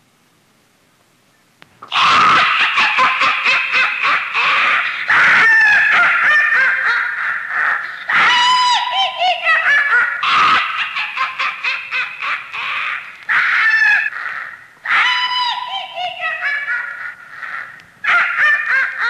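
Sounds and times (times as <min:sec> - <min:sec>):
high-pitched cackling laugh: 0:01.8 - 0:19.0.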